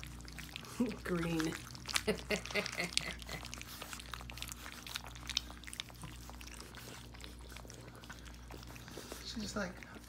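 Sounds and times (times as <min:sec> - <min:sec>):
puppies lapping from metal pan: 0:00.0 - 0:10.0.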